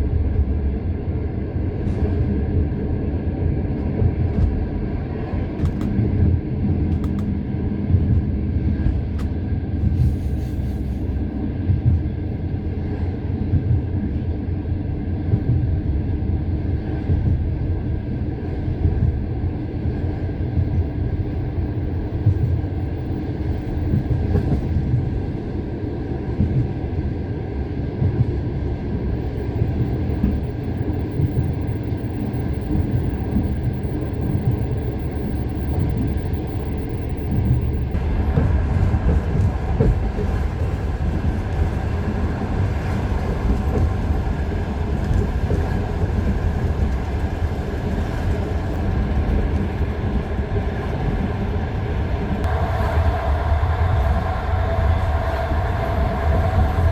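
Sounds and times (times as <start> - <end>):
steady low rumble: 0.0 - 56.9.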